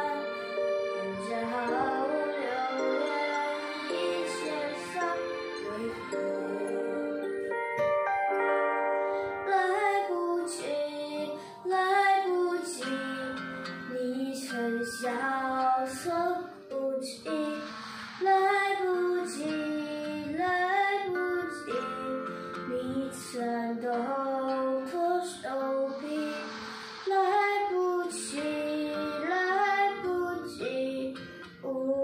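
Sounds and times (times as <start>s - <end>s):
boy singing: 0.0s - 7.3s, 9.5s - 32.0s
recorded music accompaniment: 0.0s - 32.0s.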